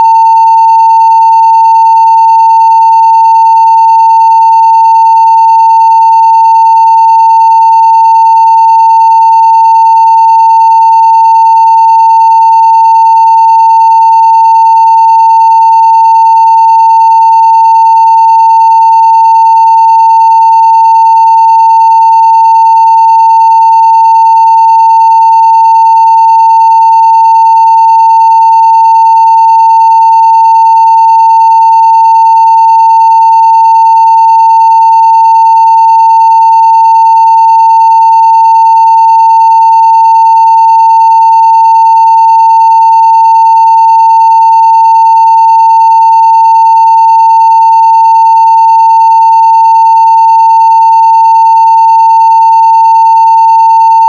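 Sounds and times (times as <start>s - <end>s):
sine-wave test tone: 0.0s - 54.0s.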